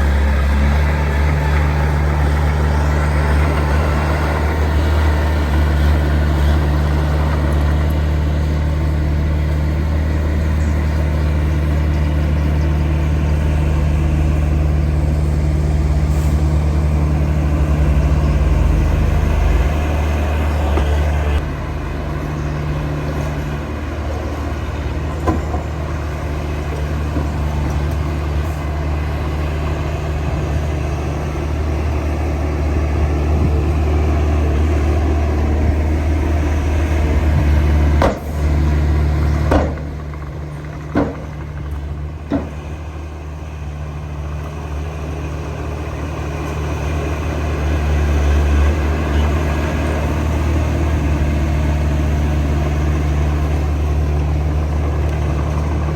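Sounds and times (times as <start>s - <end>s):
heavy diesel engine under load: 0.0s - 55.9s.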